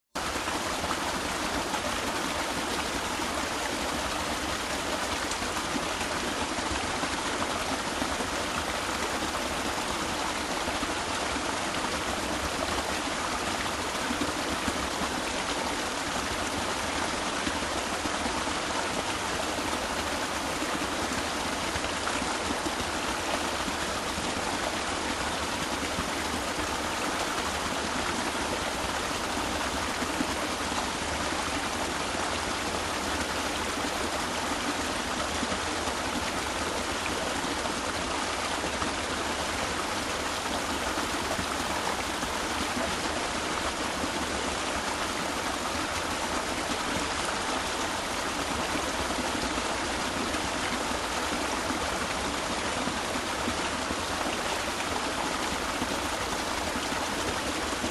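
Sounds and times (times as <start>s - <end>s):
stream babbling over rocks: 0.2s - 57.9s.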